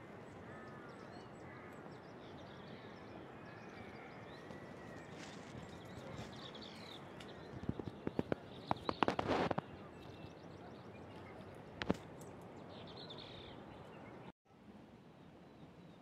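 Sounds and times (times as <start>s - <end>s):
birds chirping: 0.0s - 14.3s
steady outdoor hiss: 0.0s - 16.0s.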